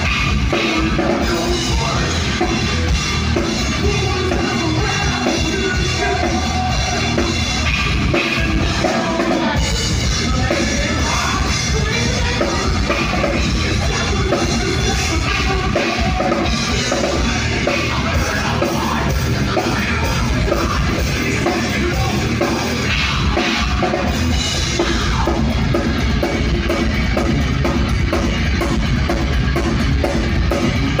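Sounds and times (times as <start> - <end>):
heavy metal band playing: 0.0 - 31.0.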